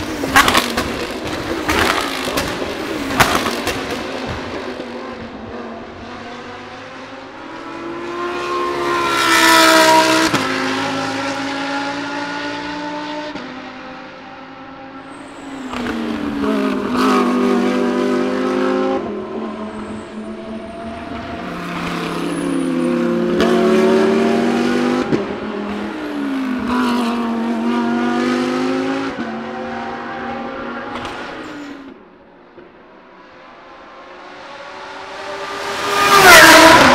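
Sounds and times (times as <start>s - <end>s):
race cars passing by: 0.0s - 36.9s.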